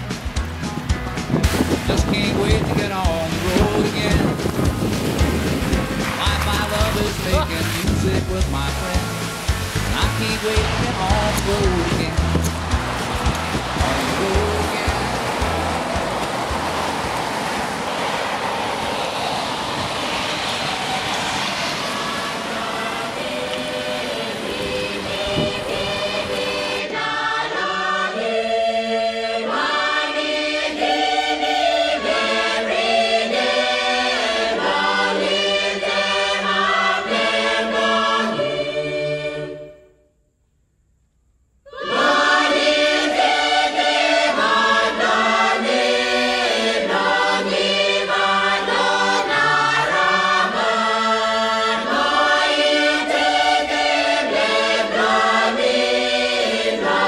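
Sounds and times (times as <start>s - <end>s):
choir singing over a beat: 1.3s - 18.2s, 20.5s - 39.7s, 41.7s - 57.0s.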